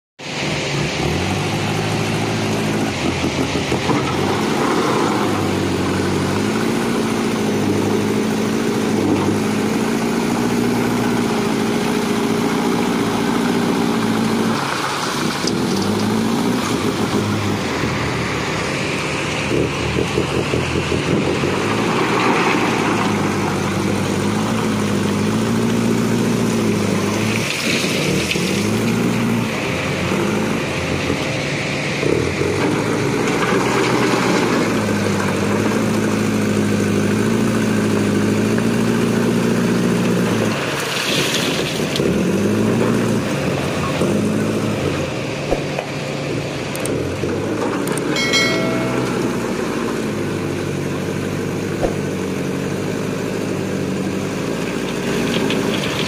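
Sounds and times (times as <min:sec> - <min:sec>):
diesel engine running loud: 0:00.2 - 0:56.0.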